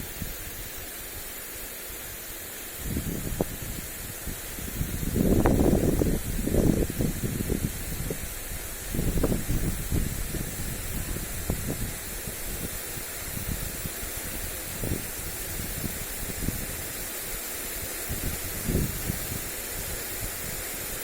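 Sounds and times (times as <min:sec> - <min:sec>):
sprinkler spraying water: 0:00.0 - 0:21.0
wind buffeting microphone: 0:02.8 - 0:17.0, 0:18.1 - 0:20.7.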